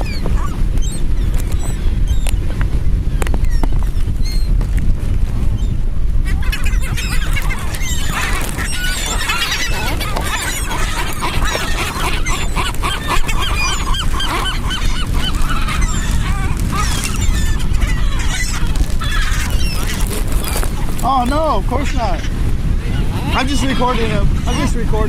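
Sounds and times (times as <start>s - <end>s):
seagulls squawking: 0.0s - 2.4s, 5.6s - 25.0s
steady low rumble: 0.0s - 25.0s.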